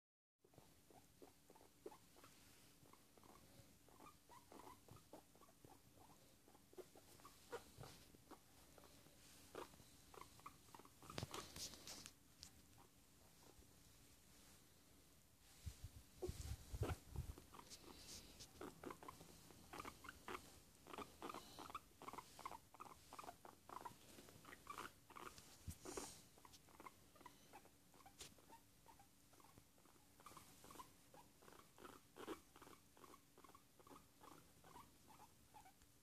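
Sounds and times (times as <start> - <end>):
guinea pig soft contented notes: 0.4 - 36.0.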